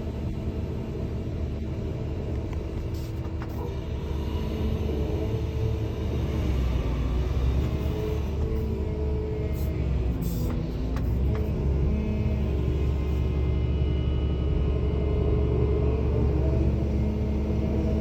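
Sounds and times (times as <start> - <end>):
diesel engine low rumble: 0.0 - 18.0.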